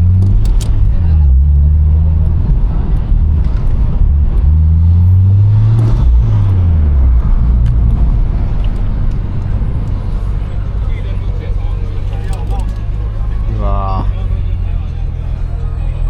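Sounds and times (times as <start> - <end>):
car engine and exhaust drone: 0.0 - 16.0.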